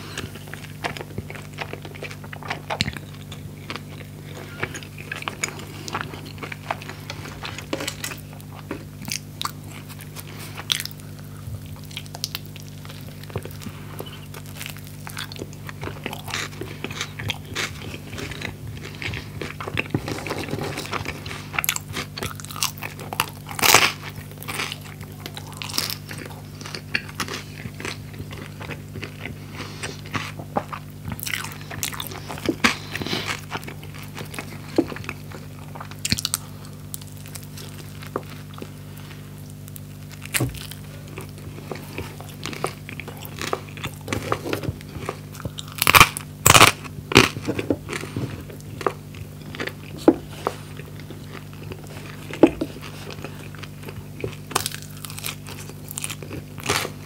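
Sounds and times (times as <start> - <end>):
faint low hum: 0.0 - 57.0
wet chewing with crisp crunches: 0.0 - 57.0.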